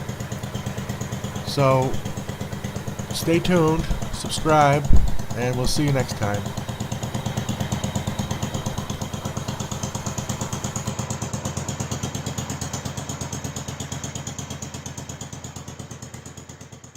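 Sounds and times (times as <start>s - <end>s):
small engine idling: 0.0s - 16.9s.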